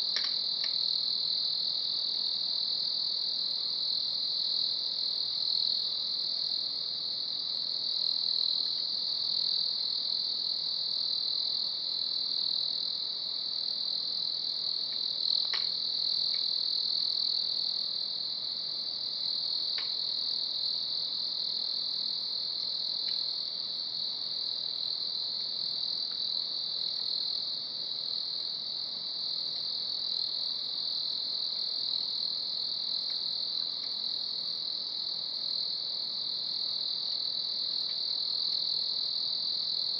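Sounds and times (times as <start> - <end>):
night insects trilling: 0.0 - 39.9.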